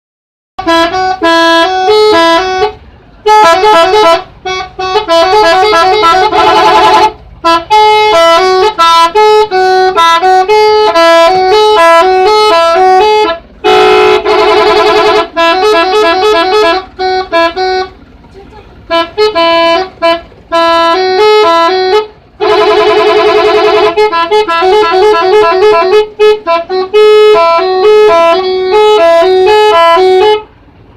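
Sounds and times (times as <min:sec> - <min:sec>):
multi-tone musical bus horn: 0:00.6 - 0:30.9.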